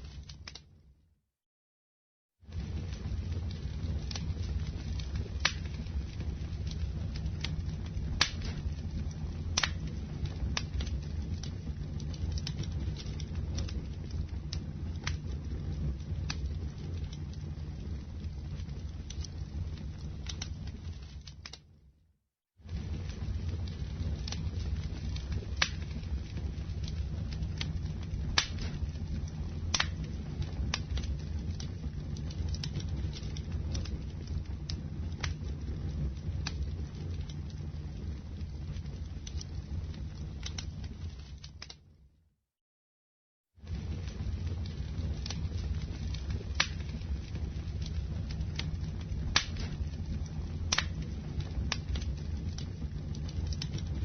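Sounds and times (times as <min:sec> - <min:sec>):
wood popping in fire: 0:00.0 - 0:00.8, 0:02.4 - 0:21.8, 0:22.6 - 0:42.1, 0:43.6 - 0:54.0
campfire low rumble: 0:00.0 - 0:00.9, 0:02.4 - 0:22.0, 0:22.6 - 0:42.1, 0:43.5 - 0:54.0.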